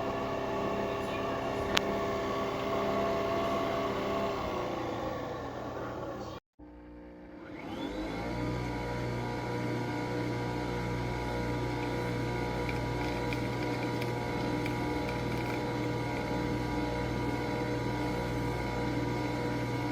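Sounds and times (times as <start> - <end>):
coffee machine motor humming: 0.0 - 19.9.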